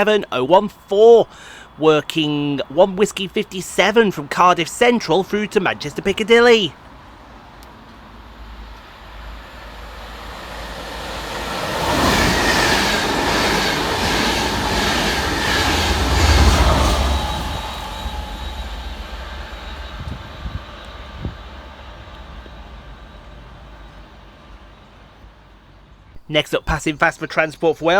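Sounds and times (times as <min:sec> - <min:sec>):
clatter of train wheels: 0:00.0 - 0:26.2
train passing fast: 0:00.0 - 0:27.9.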